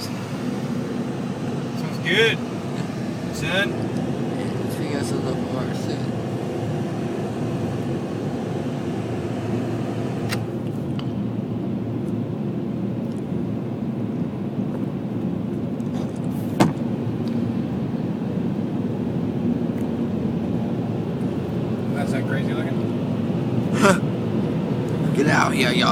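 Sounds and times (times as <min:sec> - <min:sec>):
car wash machinery running: 0:00.0 - 0:25.9.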